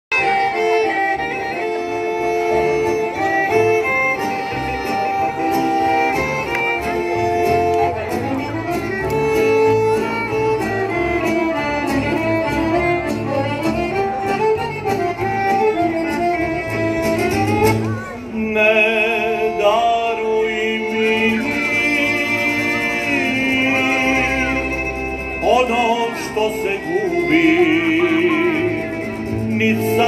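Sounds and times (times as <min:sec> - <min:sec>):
acoustic guitar: 0:00.1 - 0:30.0
violins playing melody: 0:00.1 - 0:30.0.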